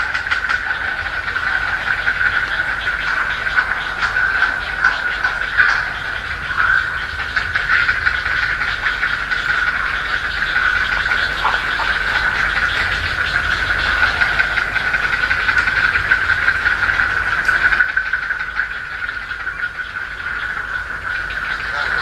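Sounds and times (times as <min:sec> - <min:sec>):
nestlings ticking chatter: 0:00.0 - 0:22.0.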